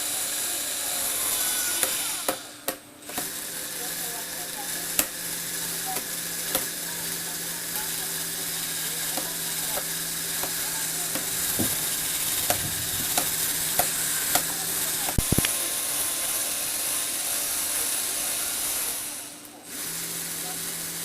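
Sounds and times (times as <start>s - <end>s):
small electric motor humming: 0.0s - 21.0s.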